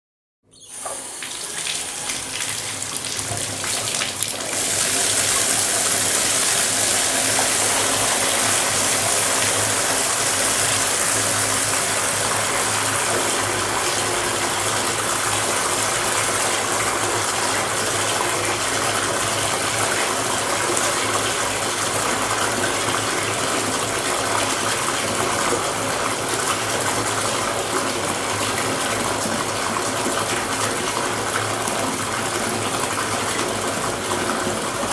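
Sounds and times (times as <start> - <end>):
water gushing into bathtub: 0.7 - 34.9.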